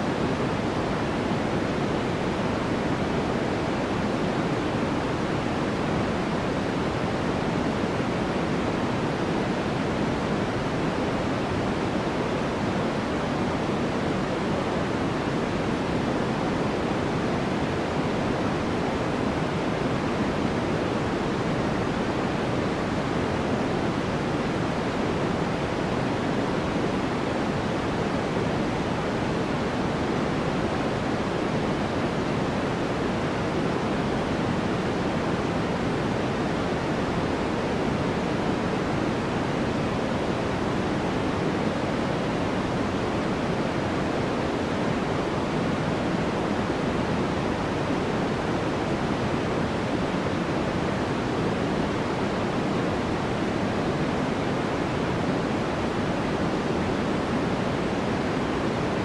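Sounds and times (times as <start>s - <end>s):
steady pink noise: 0.0s - 59.0s.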